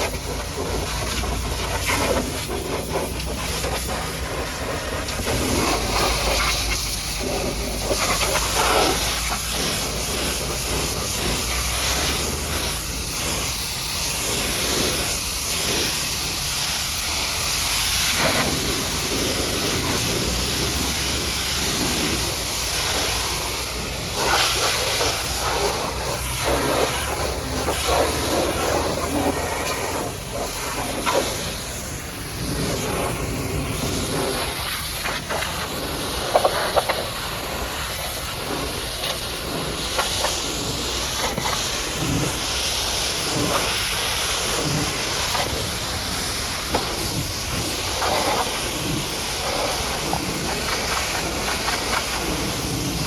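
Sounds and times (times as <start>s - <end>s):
pressure washer jet hissing: 0.0s - 53.0s.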